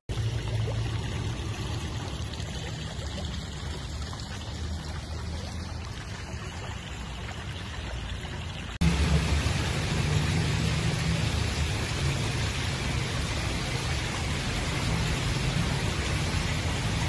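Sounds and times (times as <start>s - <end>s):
water rushing: 0.1s - 17.0s.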